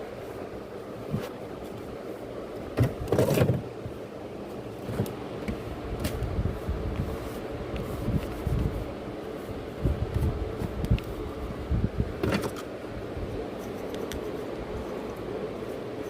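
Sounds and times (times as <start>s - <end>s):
mechanical hum with tone: 0.0s - 16.0s.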